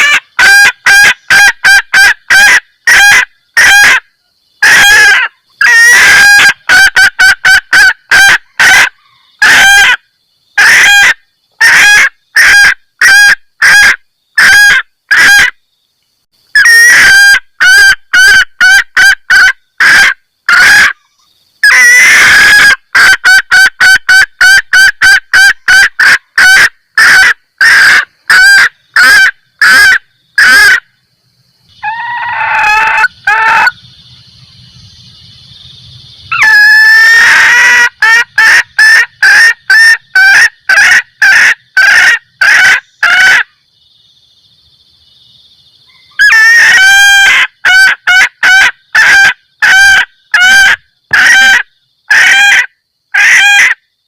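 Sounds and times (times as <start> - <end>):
junglefowl hen cackling: 0.0 - 15.6, 16.5 - 30.9, 31.7 - 33.9, 36.3 - 43.5, 45.9 - 53.8.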